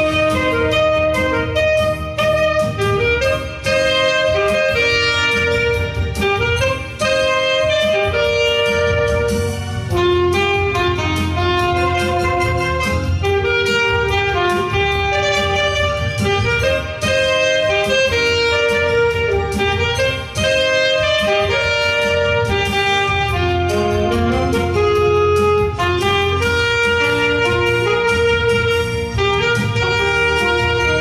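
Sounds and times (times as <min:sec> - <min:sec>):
alto saxophones playing melody: 0:00.0 - 0:31.0
backing track with steady beat: 0:00.0 - 0:31.0.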